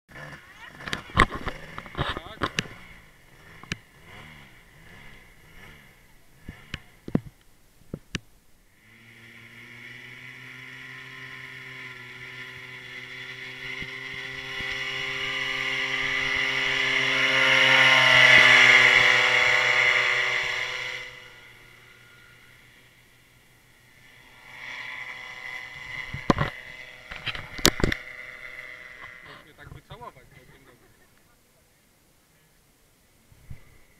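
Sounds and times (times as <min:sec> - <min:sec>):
paramotor engine droning: 0:00.1 - 0:31.2.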